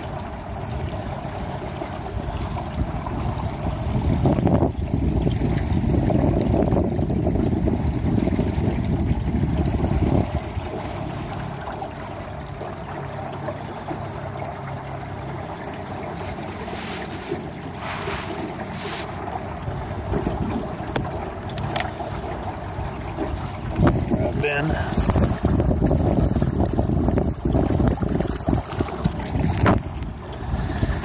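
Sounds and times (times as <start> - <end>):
rush of wind and water: 0.0 - 31.0.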